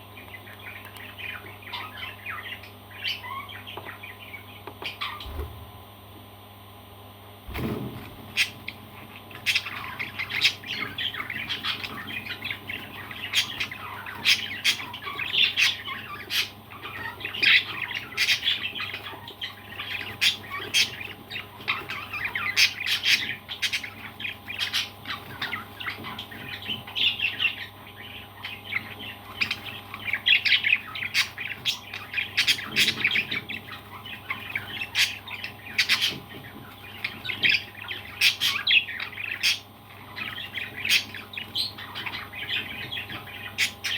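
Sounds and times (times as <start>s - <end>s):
parrots squawking and chirping: 0.2s - 5.5s, 8.3s - 43.9s.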